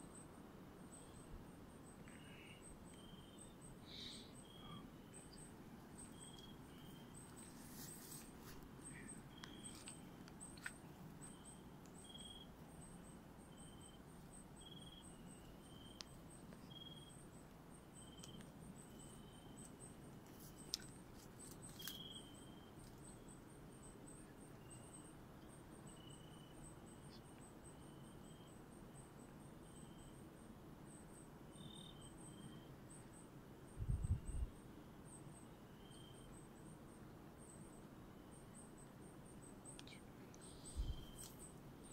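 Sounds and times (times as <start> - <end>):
high pulsing insect call: 0.0 - 41.9.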